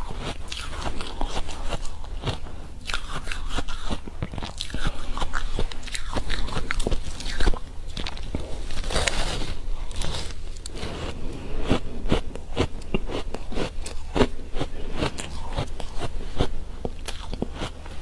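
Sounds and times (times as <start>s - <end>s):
ice crunching as chewed: 0.0s - 18.0s.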